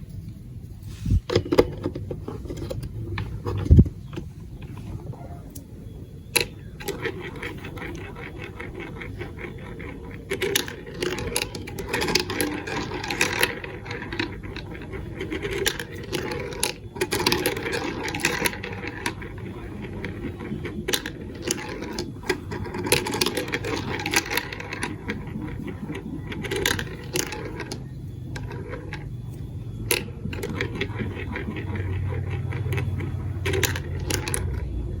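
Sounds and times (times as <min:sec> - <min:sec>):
marbles rolling on plastic run: 0:01.4 - 0:34.8.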